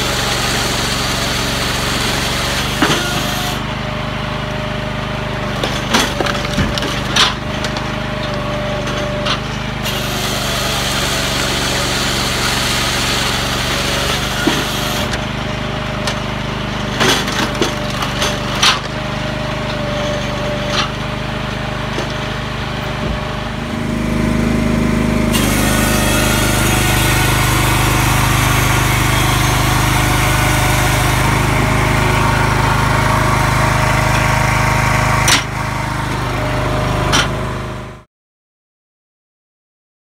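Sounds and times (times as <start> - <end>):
gasoline engine running: 0.0 - 38.1.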